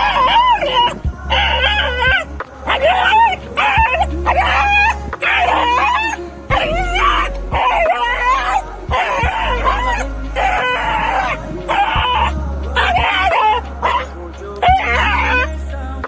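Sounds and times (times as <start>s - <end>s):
dog whining: 0.0s - 15.5s.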